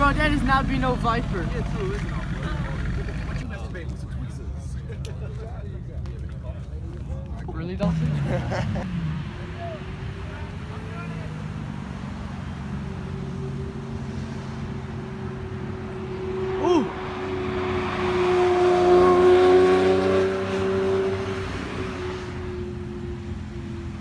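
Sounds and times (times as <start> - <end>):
loud engine driving through: 0.0 - 5.0, 7.6 - 24.0
sports cars driving past: 0.0 - 24.0.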